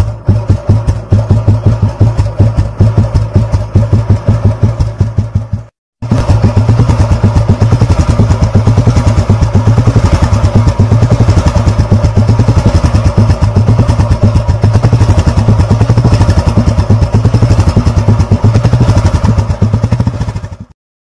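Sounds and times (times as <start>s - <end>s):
motorcycle engine idling: 0.0s - 20.7s.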